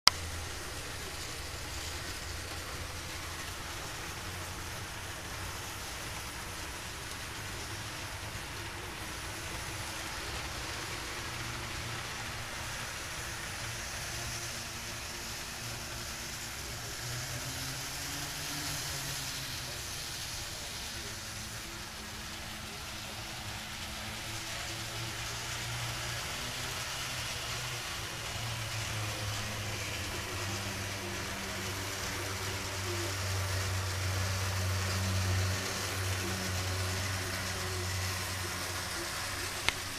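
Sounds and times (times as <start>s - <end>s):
constant hiss: 0.1s - 39.9s
model train motor hum: 0.1s - 39.9s
wheels rolling on track: 0.1s - 39.9s.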